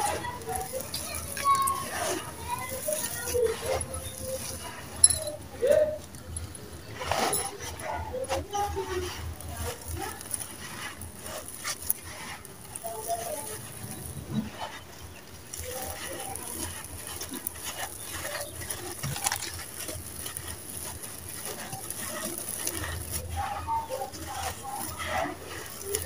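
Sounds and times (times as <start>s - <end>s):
dry dirt pouring and trickling: 0.0s - 26.0s
fingers raking through grit: 0.0s - 26.0s.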